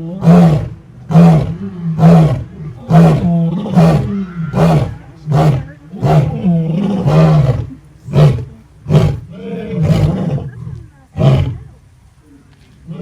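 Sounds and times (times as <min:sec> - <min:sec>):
lion roaring and grunting: 0:00.0 - 0:11.7.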